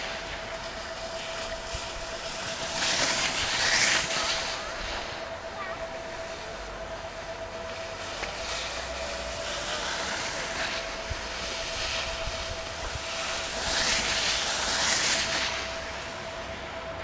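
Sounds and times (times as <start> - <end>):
skis scraping over snow: 0.0 - 17.0.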